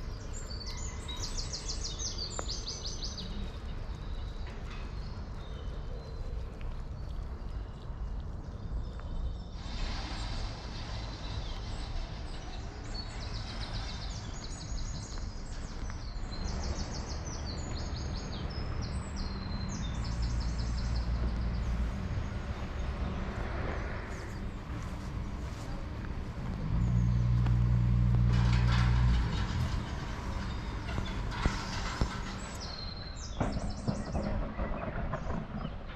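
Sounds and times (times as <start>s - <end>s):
small birds singing: 0.0s - 35.9s
steady low rumble: 0.0s - 35.9s
loud low hum: 3.0s - 35.4s.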